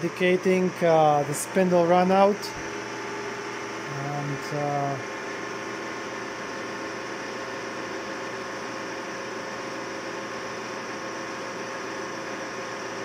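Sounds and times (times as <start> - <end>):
metal lathe running: 0.0 - 13.0
motor whine: 0.0 - 13.0.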